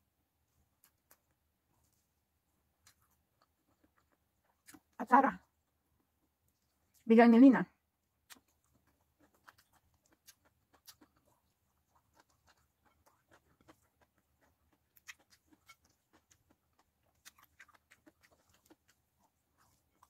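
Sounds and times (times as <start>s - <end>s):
faint chewing clicks: 0.5s - 7.1s, 8.0s - 20.0s.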